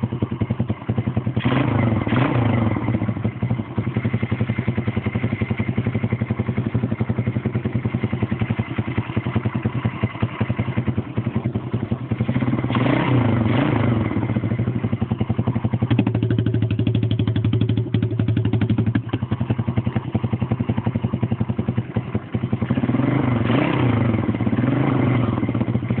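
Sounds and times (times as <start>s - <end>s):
unsilenced pit bike engine: 0.0s - 26.0s.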